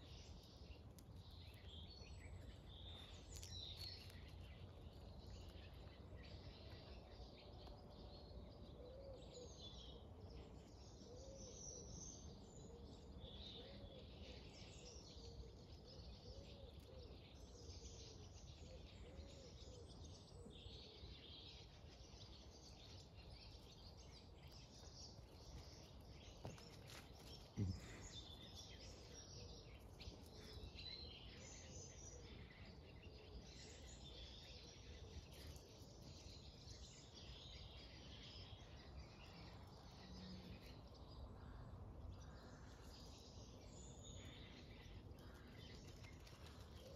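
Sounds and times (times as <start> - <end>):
faint birdsong chirps: 0.0 - 46.9.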